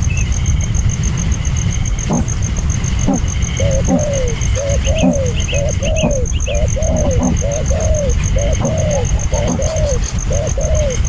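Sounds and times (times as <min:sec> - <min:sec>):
birds calling: 0:00.0 - 0:11.0
high even ticking: 0:00.0 - 0:11.0
steady low rumble: 0:00.0 - 0:11.0.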